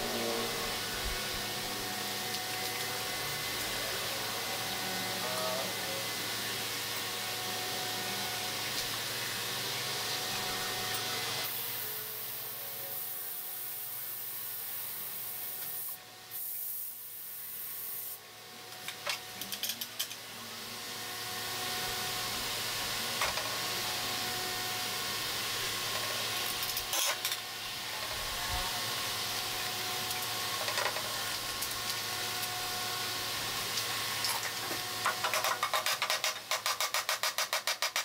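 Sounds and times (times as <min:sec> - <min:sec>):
workshop background hiss: 0:00.0 - 0:38.0.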